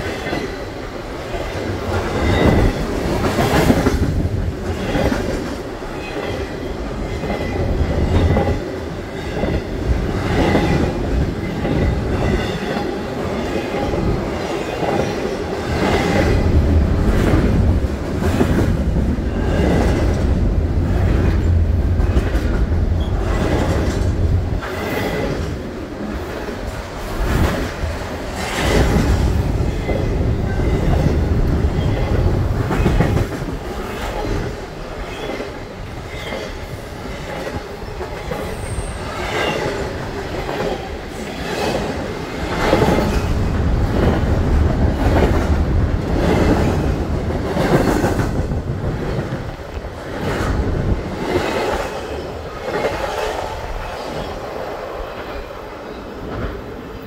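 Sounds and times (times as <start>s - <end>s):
train wheels rumbling on rails: 0.0s - 57.0s
wheels clacking on rails: 0.0s - 57.0s.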